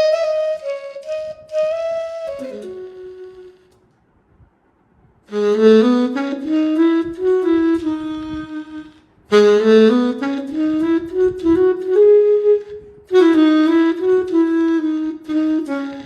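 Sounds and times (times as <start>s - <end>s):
saxophone phrases: 0.0s - 3.8s, 5.3s - 16.0s.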